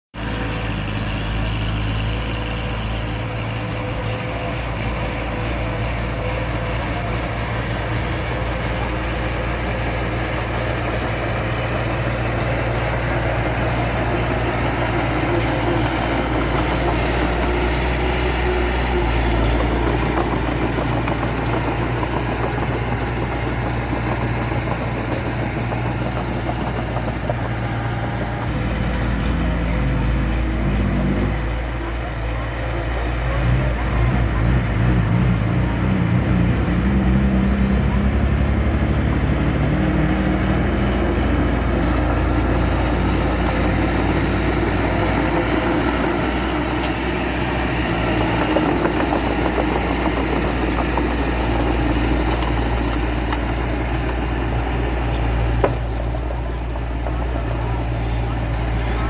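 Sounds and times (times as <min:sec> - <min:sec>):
bulldozer diesel engine running: 0:00.2 - 0:59.0.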